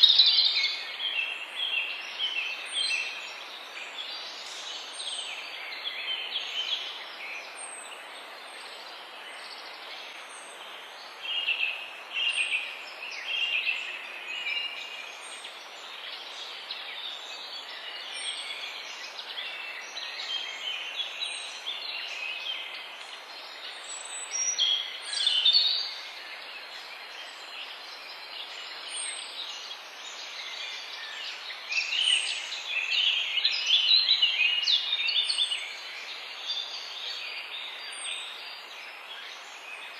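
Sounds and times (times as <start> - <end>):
background hiss: 0.0 - 39.9
songbirds singing and calling: 0.0 - 39.9.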